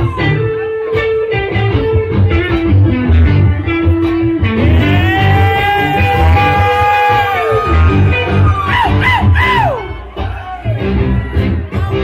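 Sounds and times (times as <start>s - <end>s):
electric guitar lead: 0.0s - 12.0s.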